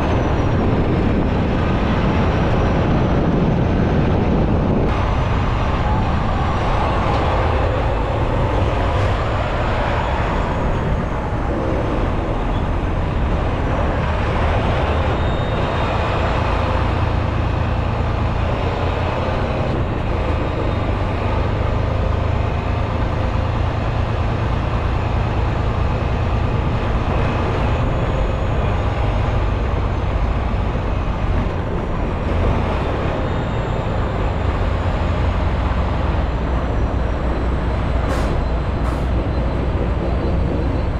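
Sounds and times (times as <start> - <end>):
road noise: 0.0 - 40.9
truck engine hum: 0.0 - 40.9.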